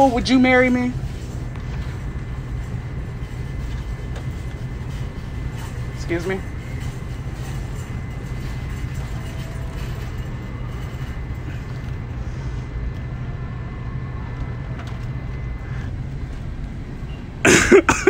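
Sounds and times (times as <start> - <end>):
shopping cart rolling: 0.0 - 18.0.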